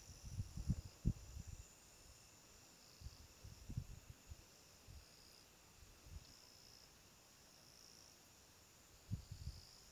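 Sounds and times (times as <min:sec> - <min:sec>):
insect chorus buzzing: 0:00.0 - 0:09.9
insect trill: 0:00.0 - 0:09.9.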